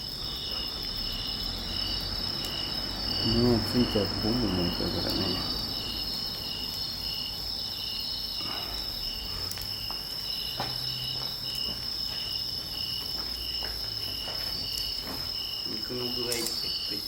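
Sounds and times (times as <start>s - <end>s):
campfire crackling: 0.0s - 17.0s
insect chirping: 0.0s - 17.0s
insect high-pitched trill: 0.0s - 17.0s.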